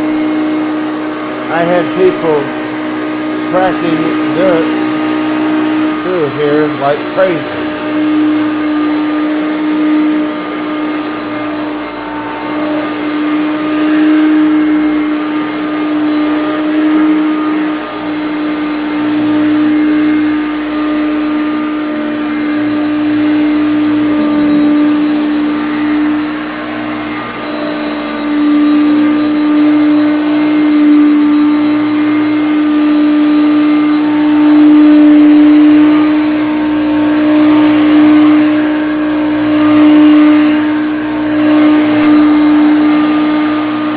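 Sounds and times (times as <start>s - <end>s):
vacuum cleaner running on carpet: 0.0s - 43.9s.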